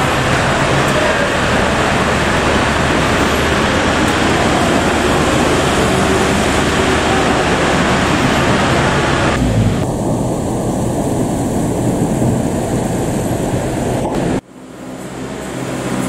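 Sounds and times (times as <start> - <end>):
vehicle traffic din: 0.0 - 16.0.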